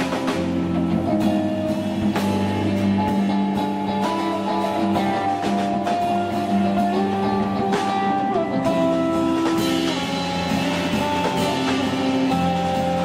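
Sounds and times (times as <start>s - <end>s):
drum kit: 0.0s - 13.0s
electric guitars sustained notes: 0.0s - 13.0s.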